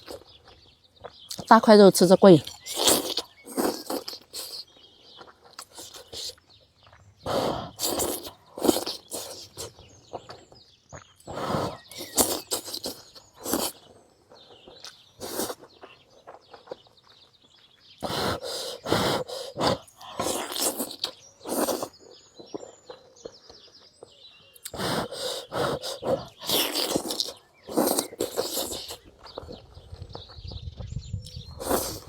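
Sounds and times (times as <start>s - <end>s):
person chewing and smacking: 0.0s - 1.5s, 2.4s - 23.8s, 24.5s - 32.0s
birds chirping faintly: 0.0s - 32.0s.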